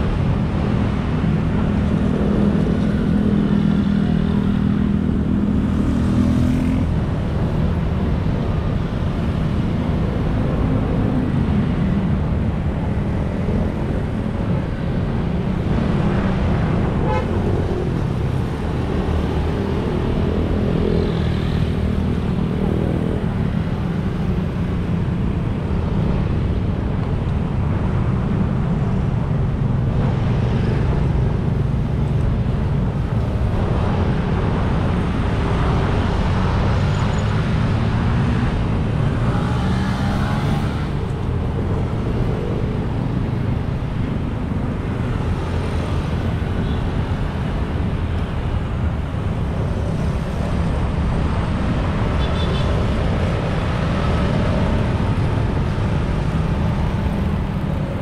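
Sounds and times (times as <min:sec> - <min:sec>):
road traffic passing: 0:00.0 - 0:58.0.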